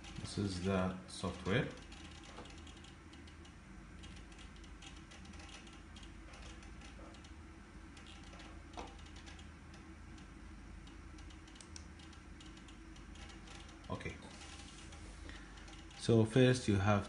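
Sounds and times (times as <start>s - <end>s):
steady low hum: 0.0s - 17.0s
computer keyboard clicking: 1.3s - 7.4s, 8.0s - 16.1s.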